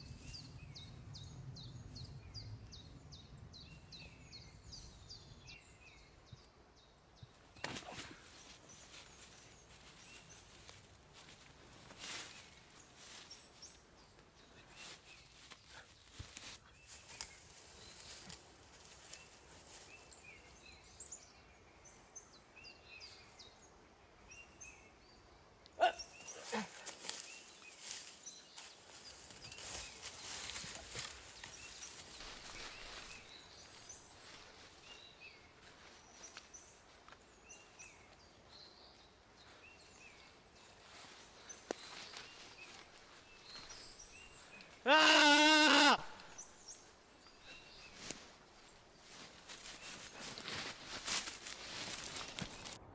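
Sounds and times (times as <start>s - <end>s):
small birds chirping: 0.0s - 44.9s, 46.1s - 52.9s.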